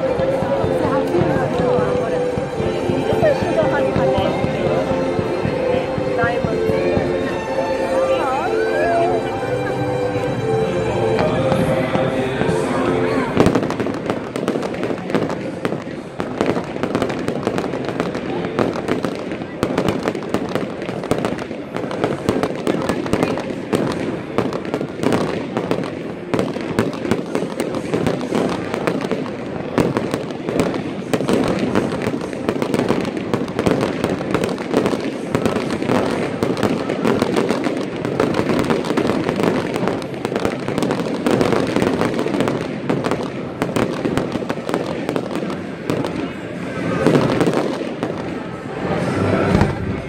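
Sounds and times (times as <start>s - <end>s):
fireworks crackling and popping: 0.0s - 10.4s, 11.1s - 50.0s.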